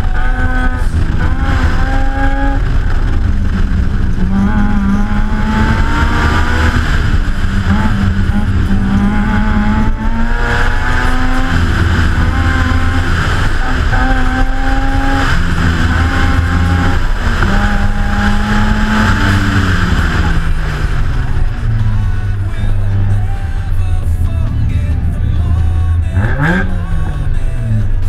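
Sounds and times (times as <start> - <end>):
wind noise: 0.0 - 22.6
rotary engine revving: 0.0 - 23.4, 24.4 - 27.2
tyre noise: 0.0 - 23.4.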